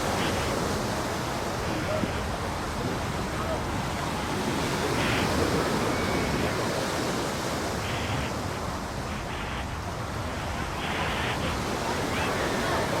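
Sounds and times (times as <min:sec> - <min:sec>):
surf washing onto beach: 0:00.0 - 0:13.0.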